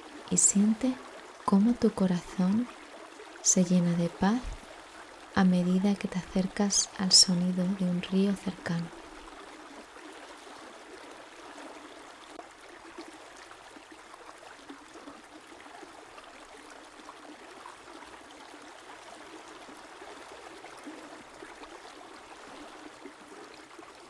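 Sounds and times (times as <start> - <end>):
stream babbling over stones: 0.0 - 24.0.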